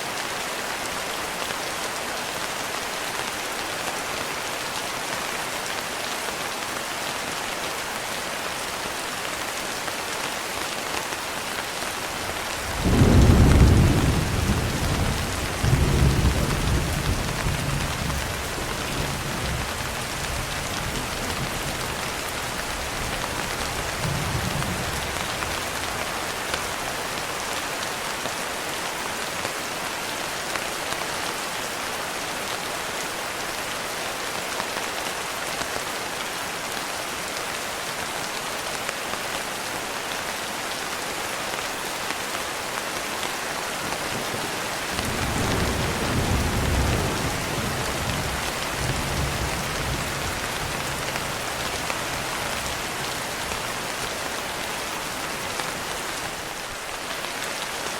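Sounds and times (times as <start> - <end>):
rain pattering on a window: 0.0 - 32.8, 33.8 - 57.9.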